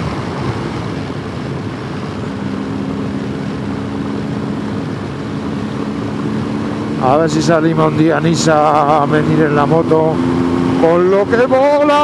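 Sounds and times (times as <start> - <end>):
motorcycle engine hum: 0.0 - 12.0
wind noise: 0.0 - 12.0.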